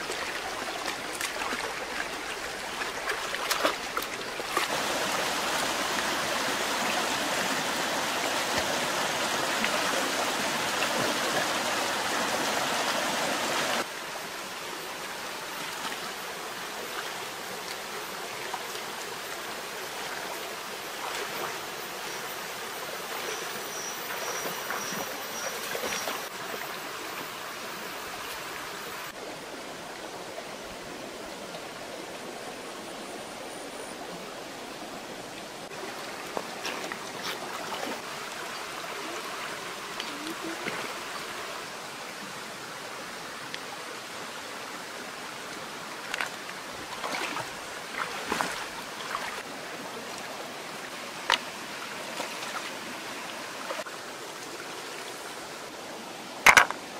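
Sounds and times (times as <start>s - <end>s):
stream running over stones: 0.0s - 56.9s.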